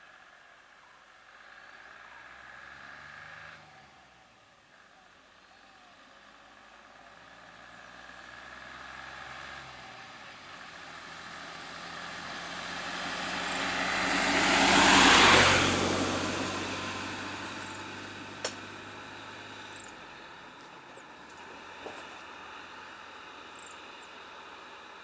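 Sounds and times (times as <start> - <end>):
light truck driving past: 1.1 - 25.0.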